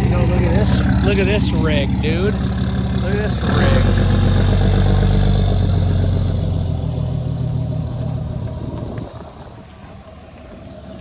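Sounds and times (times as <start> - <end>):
large vehicle engine humming: 0.0 - 11.0.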